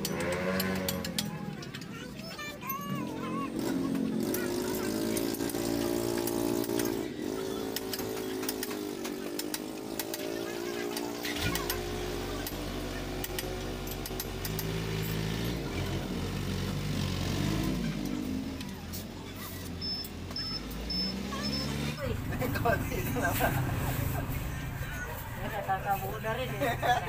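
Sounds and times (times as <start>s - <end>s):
small engine running: 0.0s - 25.3s.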